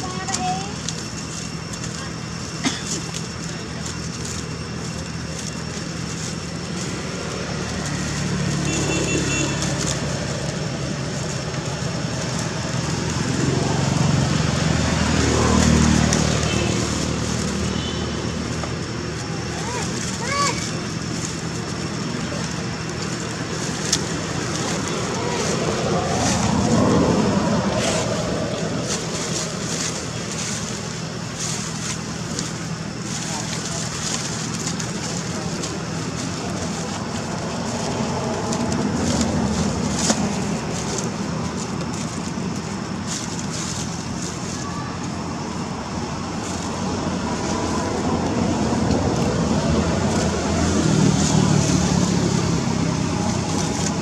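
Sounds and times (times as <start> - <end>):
dry leaves rustling: 0.0 - 54.0
low rumble of road traffic: 0.0 - 54.0.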